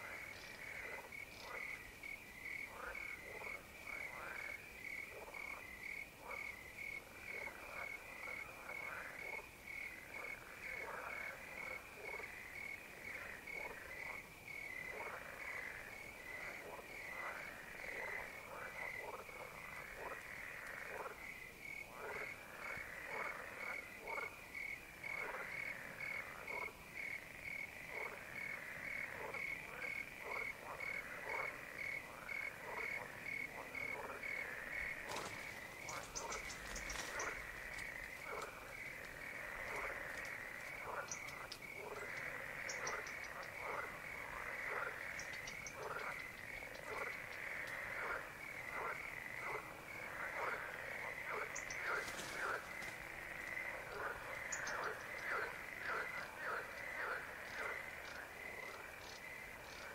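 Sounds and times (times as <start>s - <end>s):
cricket chirping: 0.0s - 59.9s
frogs calling: 0.0s - 59.9s.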